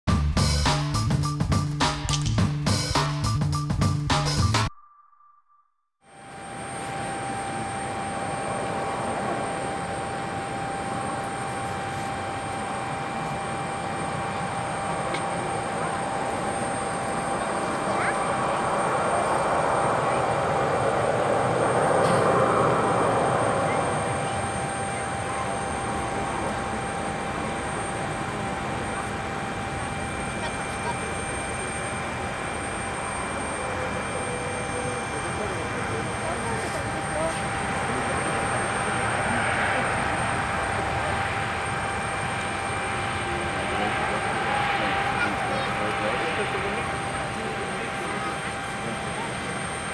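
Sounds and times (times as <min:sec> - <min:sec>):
jet engine noise: 0:06.1 - 0:49.9.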